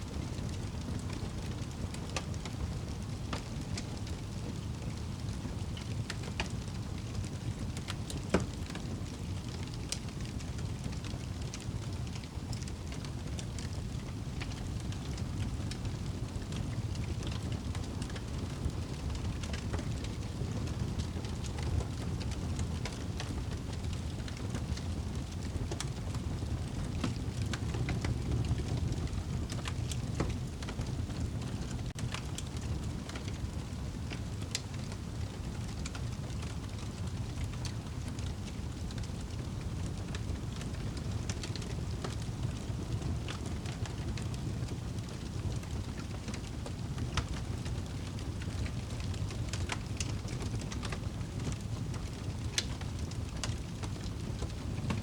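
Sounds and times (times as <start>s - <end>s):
low rumble of flames: 0.0s - 55.0s
fire crackles and pops: 0.1s - 55.0s.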